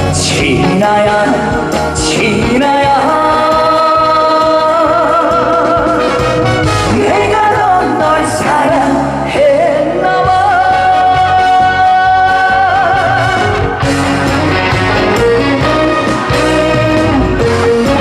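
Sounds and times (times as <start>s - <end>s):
band playing: 0.0s - 18.0s
man singing with vibrato: 0.0s - 18.0s.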